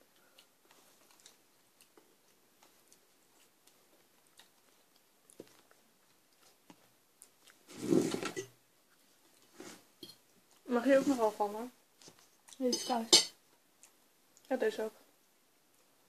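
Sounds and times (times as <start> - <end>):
soft chewing: 0.0 - 7.8, 8.4 - 16.0.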